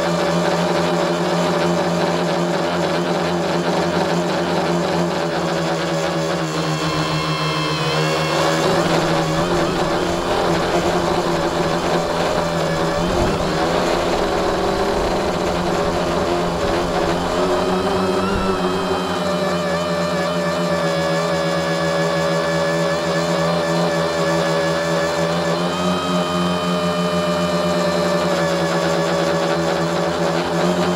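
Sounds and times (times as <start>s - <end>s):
drone propellers whining: 0.0s - 30.9s.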